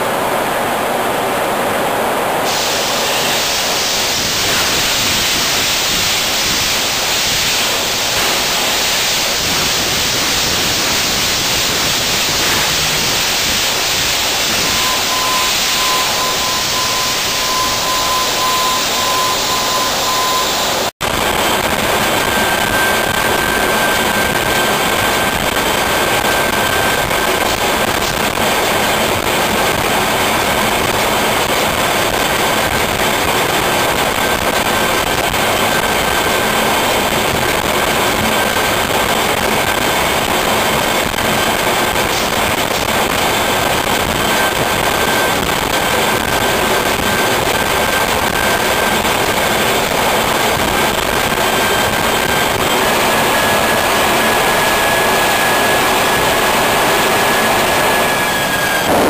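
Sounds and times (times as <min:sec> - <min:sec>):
marine diesel engine roar: 0:00.0 - 0:59.0
steady high whine: 0:00.0 - 0:59.0.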